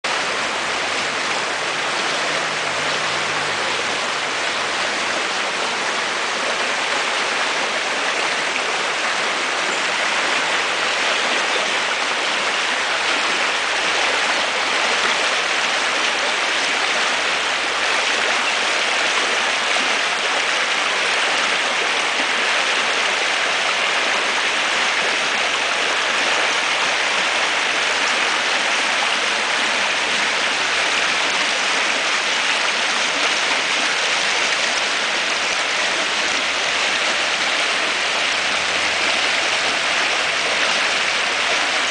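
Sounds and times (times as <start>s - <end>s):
flooded creek rushing: 0.0s - 41.9s.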